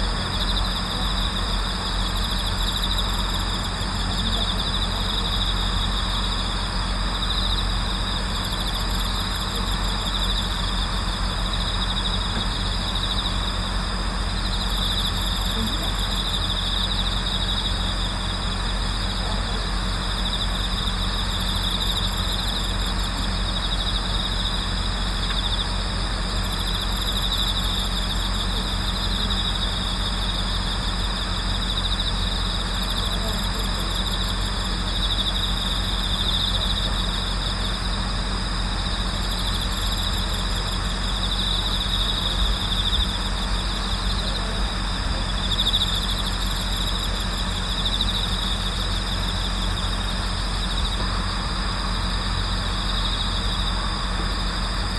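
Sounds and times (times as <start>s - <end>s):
higher cricket trill: 0.0s - 54.9s
pulsing cricket trill: 0.0s - 54.9s.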